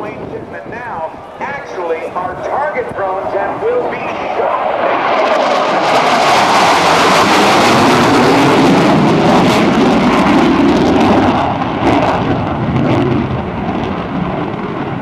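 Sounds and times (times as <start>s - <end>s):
jet engines roaring with crackles: 0.0s - 15.0s.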